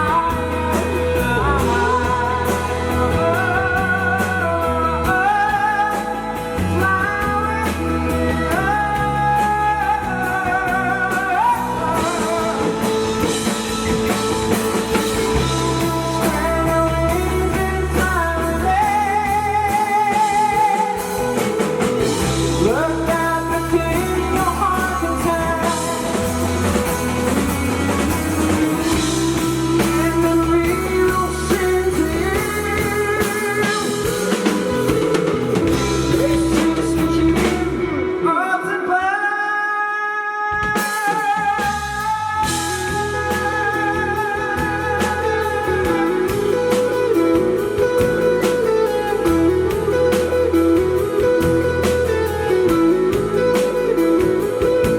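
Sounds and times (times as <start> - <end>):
bass guitar: 0.0 - 38.5, 41.4 - 54.9
drum kit: 0.0 - 39.0, 40.5 - 54.9
electric guitar: 0.0 - 54.9.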